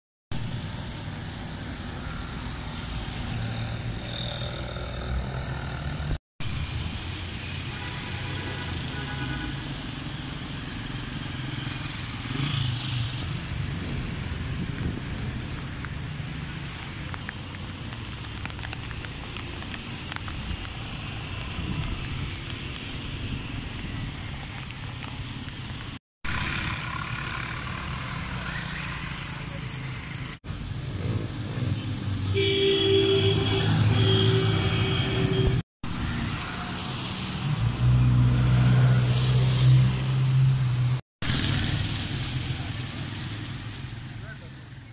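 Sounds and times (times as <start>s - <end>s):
vehicles passing on wet road: 0.4s - 44.9s.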